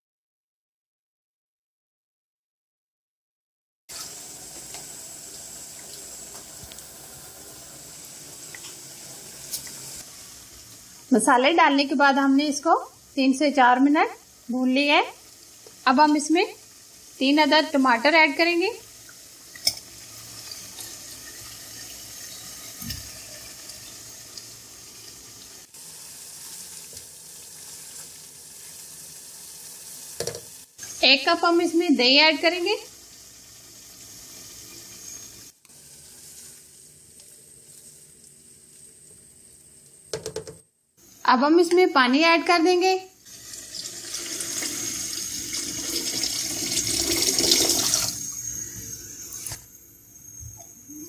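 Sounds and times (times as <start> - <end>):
food sizzling in a pan: 3.9 - 40.1, 41.0 - 51.0.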